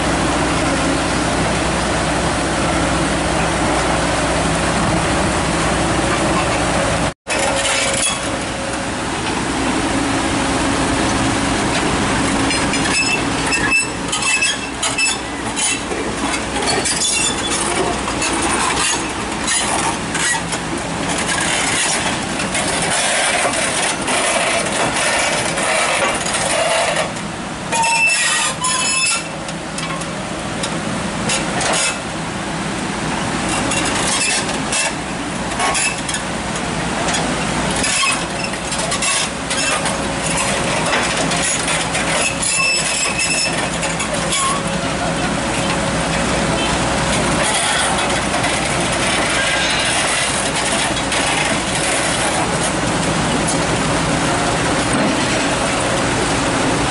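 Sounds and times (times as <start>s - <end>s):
excavator engine running: 0.0s - 56.9s.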